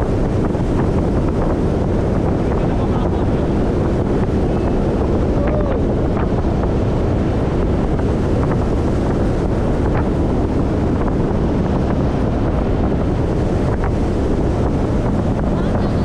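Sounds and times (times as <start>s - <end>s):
hull running on water: 0.0s - 16.0s
outboard motor: 0.0s - 16.0s
wind rushing over microphone: 0.0s - 16.0s.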